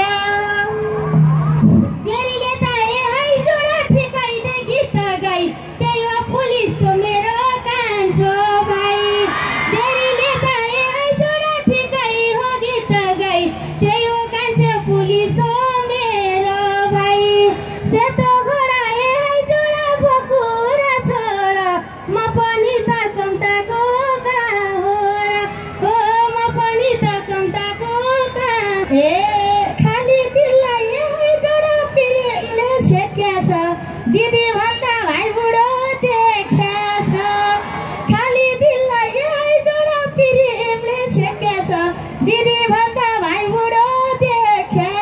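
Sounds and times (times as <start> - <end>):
woman singing into microphone: 0.0 - 45.0.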